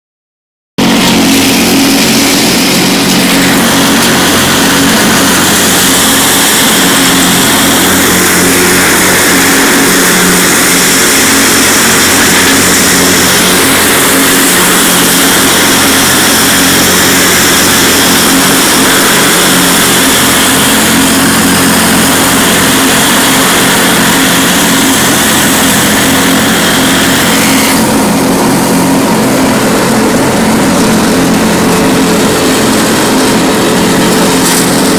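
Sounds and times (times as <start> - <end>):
lawn tractor engine hum: 0.8 - 34.9
mower deck rushing over dry leaves: 0.8 - 34.9.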